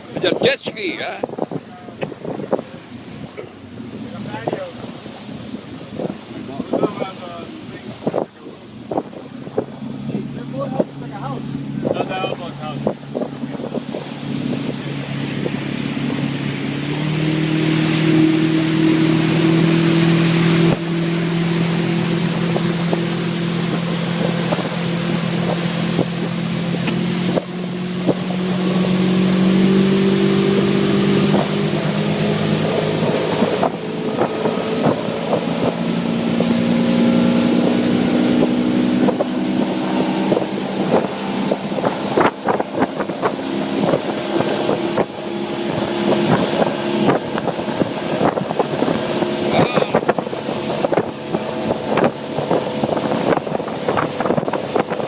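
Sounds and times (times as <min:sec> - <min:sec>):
hull slapping water: 0:00.0 - 0:55.0
motorboat engine: 0:00.0 - 0:55.0
wind buffeting microphone: 0:00.0 - 0:55.0.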